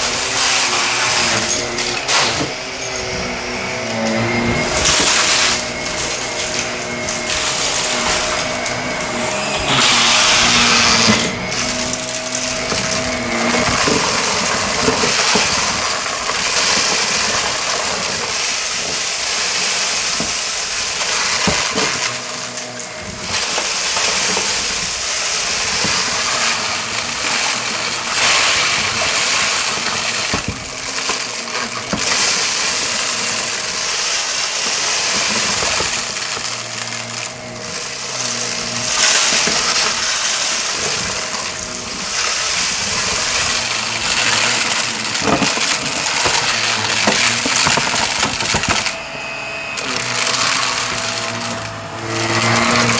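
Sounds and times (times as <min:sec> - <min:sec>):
debris clicking in vacuum: 0:00.0 - 0:52.9
vacuum cleaner motor whine: 0:00.0 - 0:52.9.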